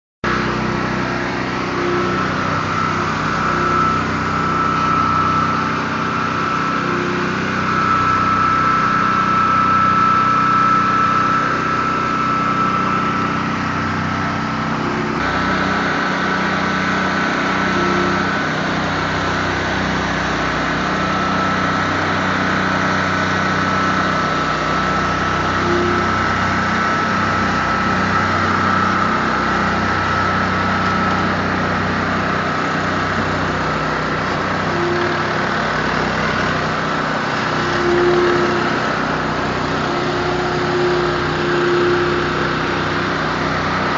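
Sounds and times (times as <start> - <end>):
engine and pump drone: 0.0 - 43.9
steady high whine: 0.2 - 43.9.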